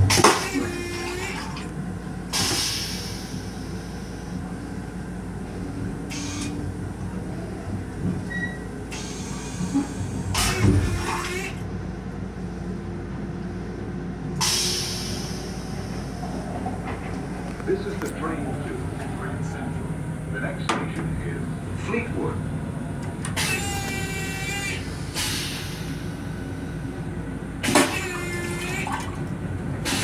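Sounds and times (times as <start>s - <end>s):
electric railcar rumbling: 0.0s - 30.0s.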